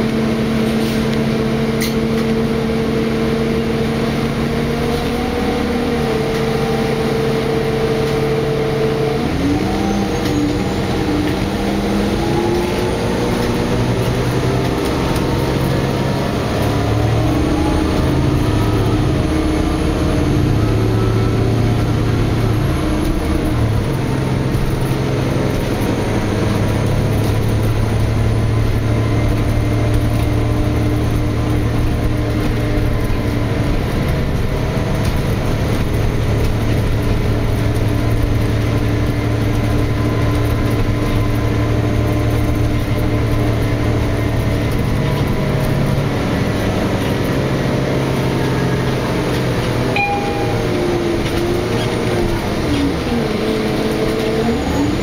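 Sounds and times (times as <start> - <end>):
bus diesel engine humming: 0.0 - 55.0
road and body noise: 9.1 - 55.0.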